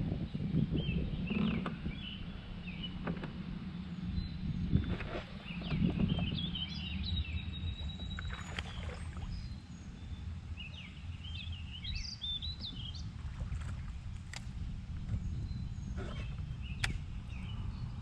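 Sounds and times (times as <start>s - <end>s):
low rumble of wind or water: 0.0s - 18.0s.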